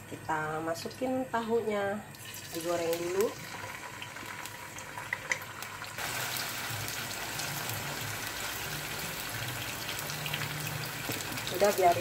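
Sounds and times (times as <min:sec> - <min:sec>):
tofu sizzling in oil: 0:02.2 - 0:12.0.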